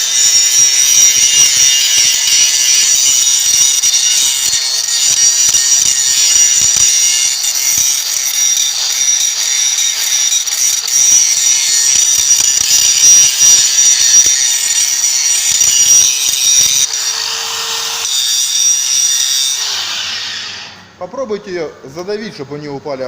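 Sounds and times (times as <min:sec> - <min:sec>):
angle grinder grinding steel: 0:00.0 - 0:20.8.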